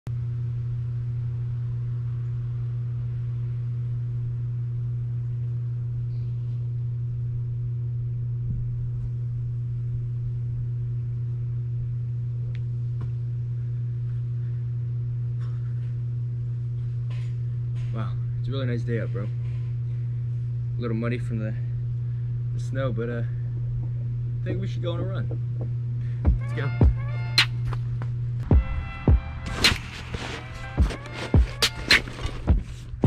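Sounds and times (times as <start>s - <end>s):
steady low hum: 0.1s - 33.0s.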